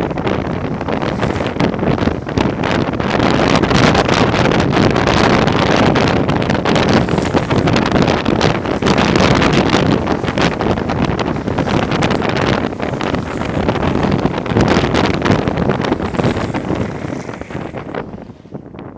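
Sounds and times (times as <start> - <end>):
skateboard wheels rolling on asphalt: 0.0 - 18.9
wind buffeting microphone: 0.0 - 18.9.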